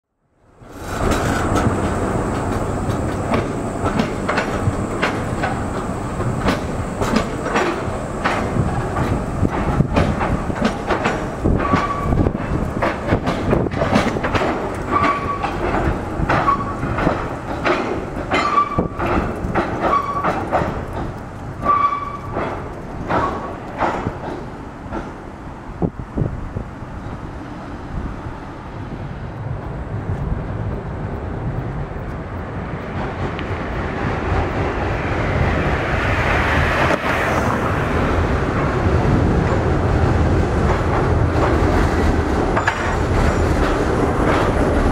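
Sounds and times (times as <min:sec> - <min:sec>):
tram running noise: 0:00.4 - 0:44.9
tram wheels clattering over track: 0:00.5 - 0:44.9
tram wheels squealing: 0:00.6 - 0:25.8, 0:32.7 - 0:44.9.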